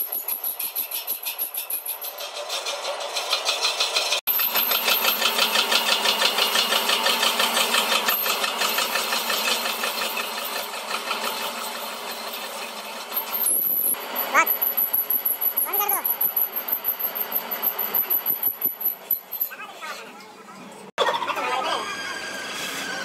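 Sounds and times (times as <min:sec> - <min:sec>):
lathe tool scraping metal rim: 0:00.0 - 0:19.5.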